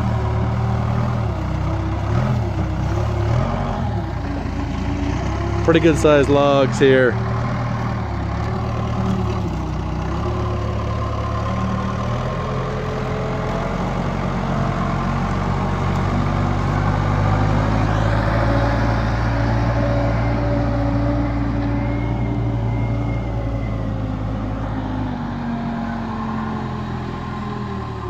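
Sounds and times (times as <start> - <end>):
backhoe diesel engine running: 0.0 - 28.0.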